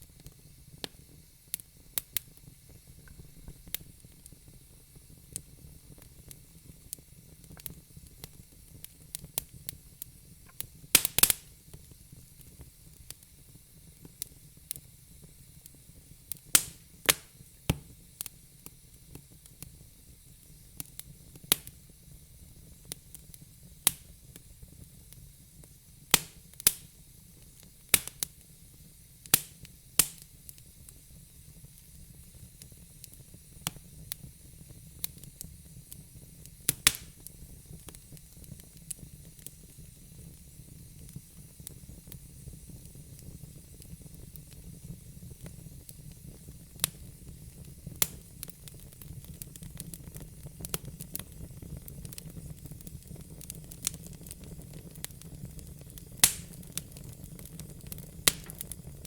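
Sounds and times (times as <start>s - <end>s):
faint steady hiss: 0.0s - 59.0s
wood fire crackling and popping: 0.0s - 59.0s.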